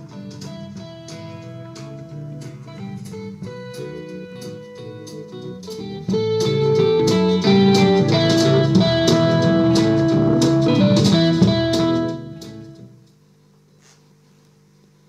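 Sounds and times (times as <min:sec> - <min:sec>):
blues guitar music with drums: 0:00.0 - 0:13.0.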